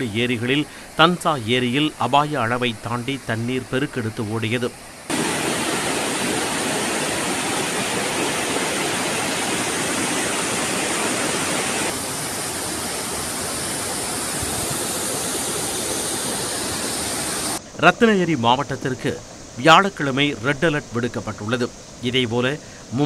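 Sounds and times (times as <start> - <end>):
roar of rushing white water: 0.0 - 23.0.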